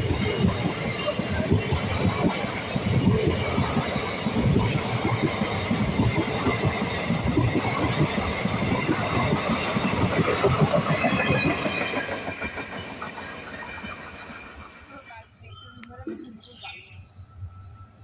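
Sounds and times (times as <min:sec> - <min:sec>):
train wheels clattering over rail joints: 0:00.0 - 0:14.6.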